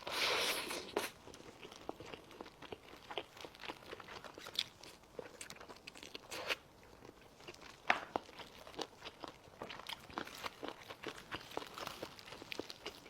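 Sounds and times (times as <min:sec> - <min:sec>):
close-miked chewing: 0:00.1 - 0:13.0.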